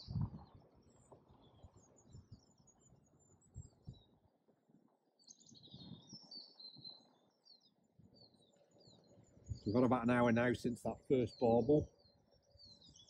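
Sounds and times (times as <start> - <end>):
birdsong: 0.0 - 13.0.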